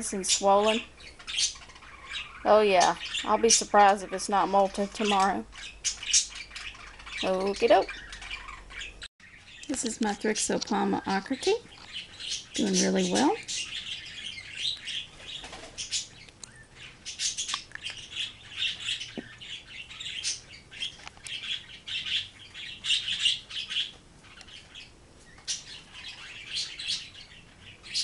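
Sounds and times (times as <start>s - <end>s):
high-pitched chirping and twittering: 0.0s - 28.0s.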